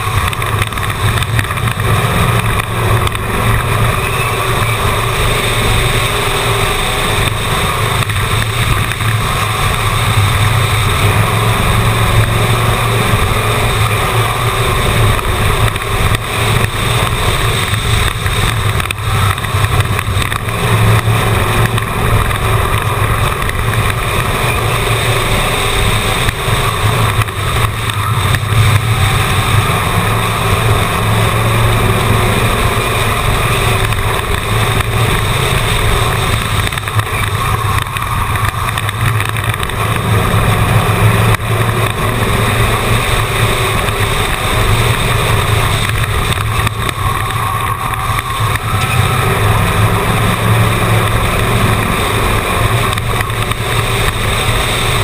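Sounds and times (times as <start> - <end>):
race car engine from inside: 0.0 - 55.0
wind and road noise: 0.0 - 55.0.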